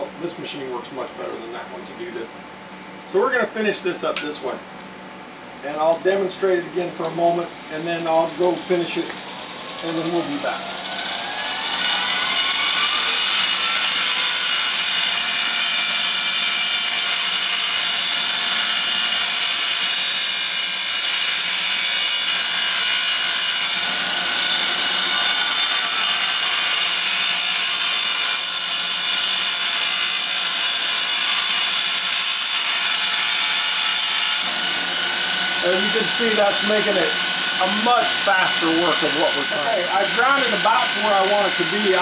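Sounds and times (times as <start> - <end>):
bench grinder grinding steel: 7.7 - 42.0.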